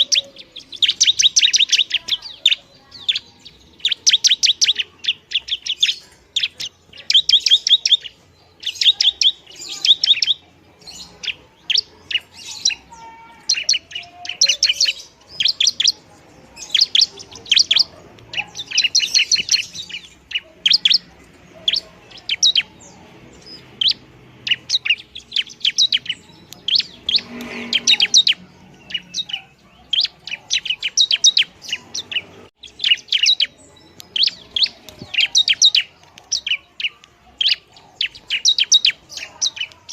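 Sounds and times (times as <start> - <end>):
bird chipping song: 0.0 - 39.9.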